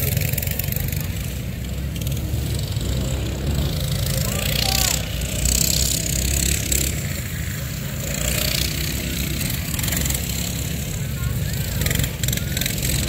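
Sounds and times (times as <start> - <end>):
small minibike engines racing: 0.0 - 13.0.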